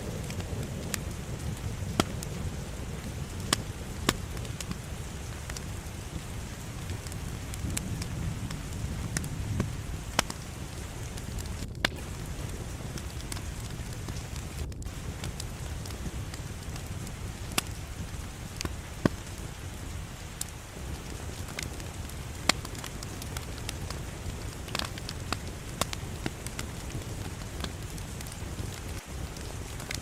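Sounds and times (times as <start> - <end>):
fire burning in fireplace: 0.0 - 30.0
fire crackles: 0.0 - 30.0.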